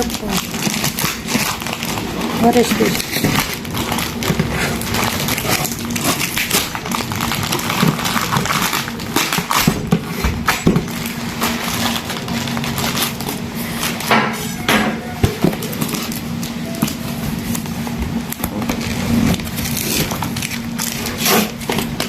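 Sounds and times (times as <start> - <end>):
packaging rustling and crinkling: 0.0 - 22.0.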